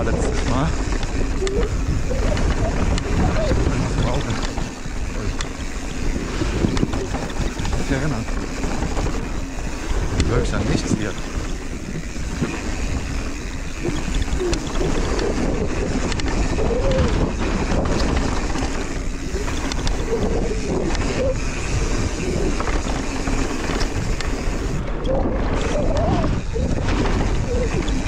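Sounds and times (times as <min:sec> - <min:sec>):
bike clicks and rattles: 0:00.0 - 0:28.0
tyres on dirt and gravel: 0:00.0 - 0:28.0
wind rushing over microphone: 0:00.0 - 0:28.0.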